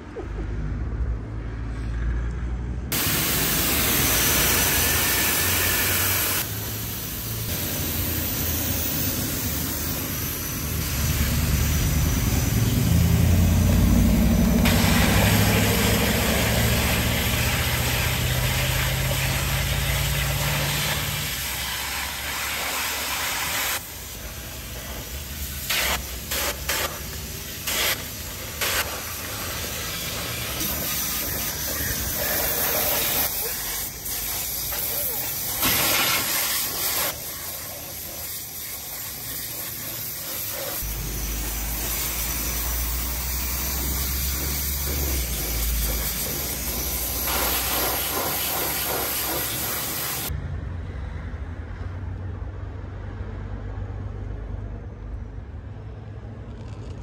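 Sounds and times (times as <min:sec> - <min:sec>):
cleaning tool spray hissing: 0:02.9 - 0:50.3.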